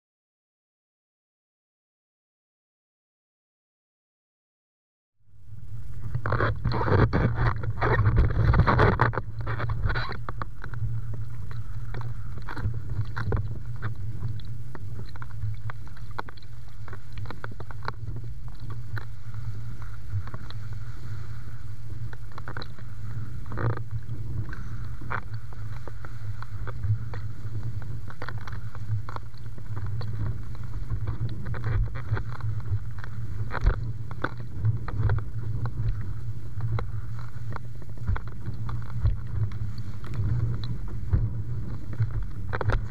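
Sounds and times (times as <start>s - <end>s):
wind buffeting microphone: 5.5s - 42.9s.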